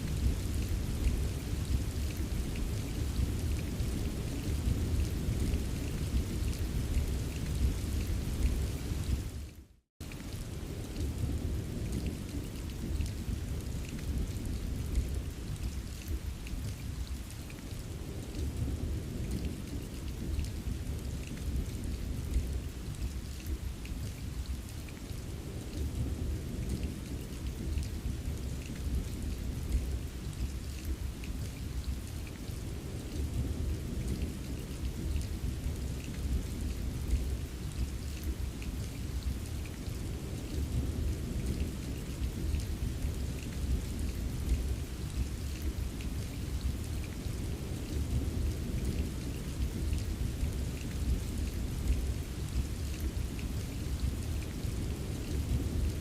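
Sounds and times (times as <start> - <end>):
low rumble of thunder: 0.0 - 9.4, 10.0 - 56.0
steady rain: 0.0 - 56.0.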